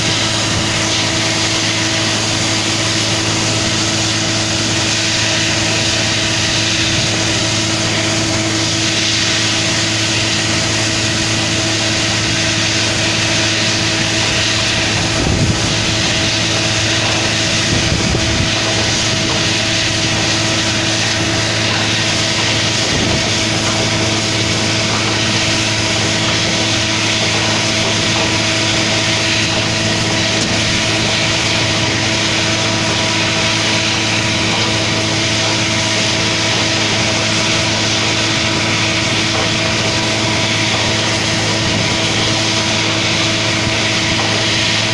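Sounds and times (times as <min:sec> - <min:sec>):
drilling rig engine hum: 0:00.0 - 0:44.9
water spraying hiss: 0:00.0 - 0:44.9.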